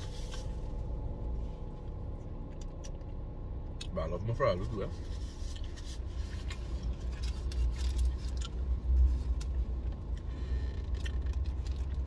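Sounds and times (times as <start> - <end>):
faint rustles and clicks: 0.0 - 2.8, 4.6 - 12.0
car engine idling rumble: 0.0 - 12.0.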